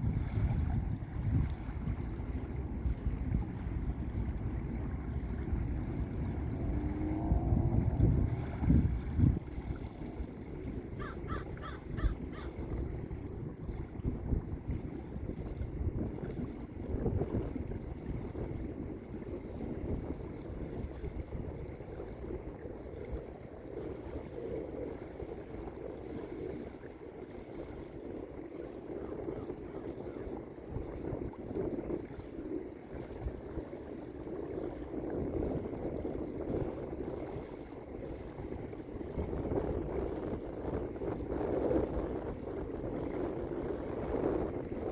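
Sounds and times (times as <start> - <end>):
lake waves washing onto beach: 0.0 - 44.9.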